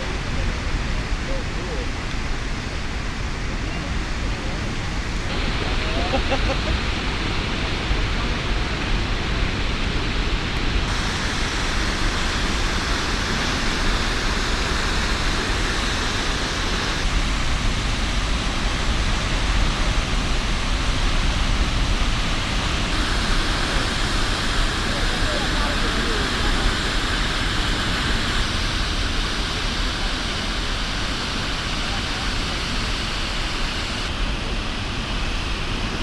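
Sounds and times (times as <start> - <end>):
waterfall roar: 0.0 - 36.0.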